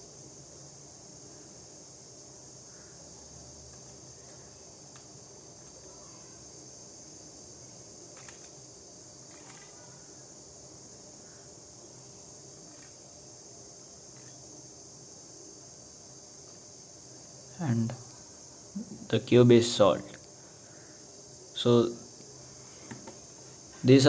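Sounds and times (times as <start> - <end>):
high-pitched hiss: 0.0 - 24.0.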